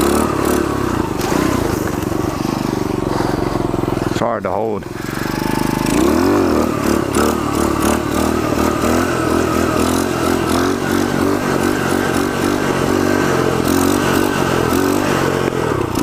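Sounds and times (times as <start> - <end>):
small motorcycle engine revving: 0.0 - 16.0.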